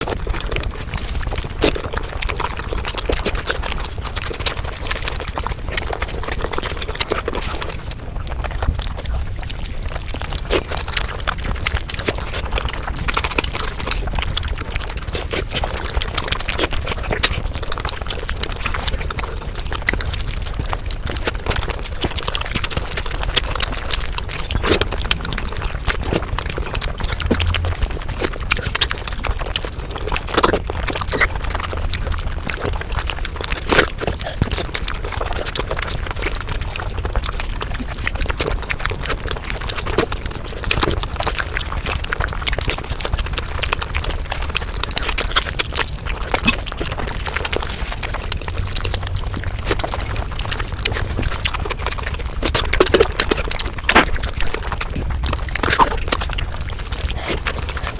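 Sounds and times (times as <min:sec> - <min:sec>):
sped-up chewing clicks: 0:00.0 - 0:57.9
wet slurping mouth noises: 0:00.0 - 0:57.9.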